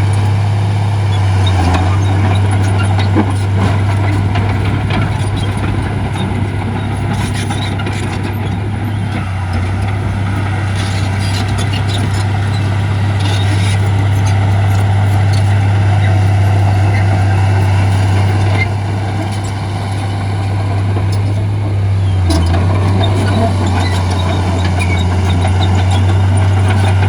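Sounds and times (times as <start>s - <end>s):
diesel engine drone: 0.0s - 27.0s.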